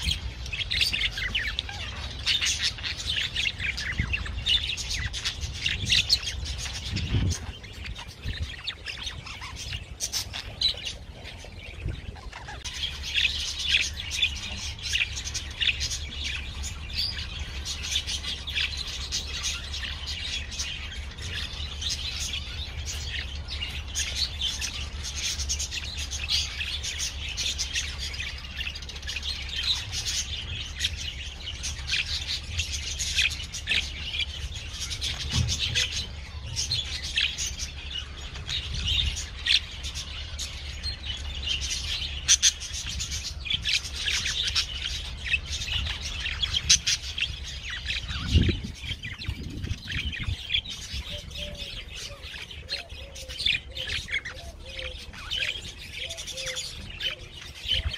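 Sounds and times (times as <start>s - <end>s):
parrots chirping: 0.0s - 57.9s.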